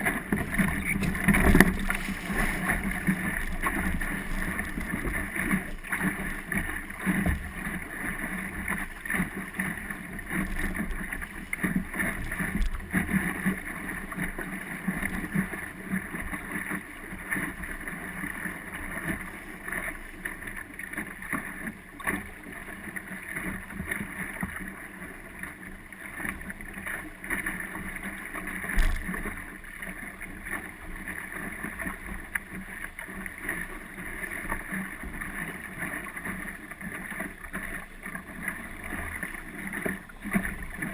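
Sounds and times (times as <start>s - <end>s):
water noise from dinghy: 0.0s - 40.9s.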